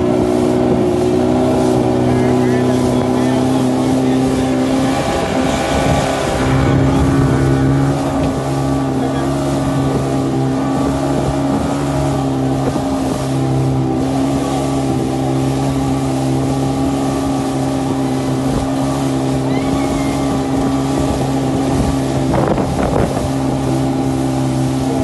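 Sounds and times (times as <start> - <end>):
outboard motor droning: 0.0 - 25.0
water rushing past hull: 0.0 - 25.0
wind on microphone: 0.0 - 25.0.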